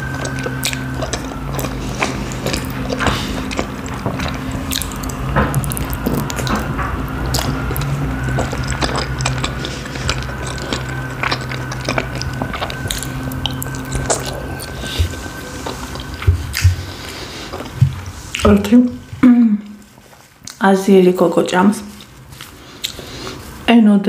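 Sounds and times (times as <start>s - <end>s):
wet chewing and lip-smacking: 0.0s - 18.8s, 19.8s - 20.6s, 21.9s - 23.4s
low hum: 0.0s - 23.8s.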